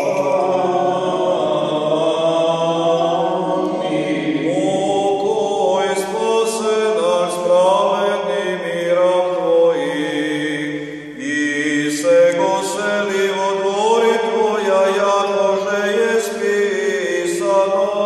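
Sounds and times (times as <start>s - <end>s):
a cappella choir chanting: 0.0s - 18.0s.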